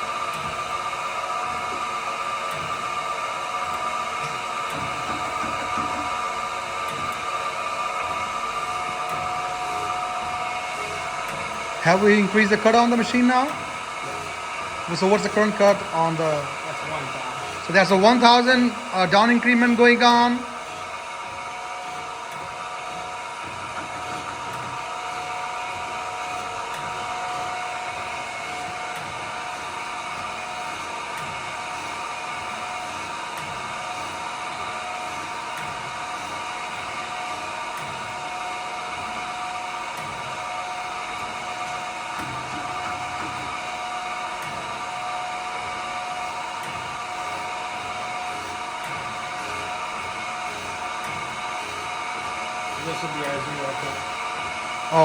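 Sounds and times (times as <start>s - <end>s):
surface grinder whine: 0.0s - 55.0s.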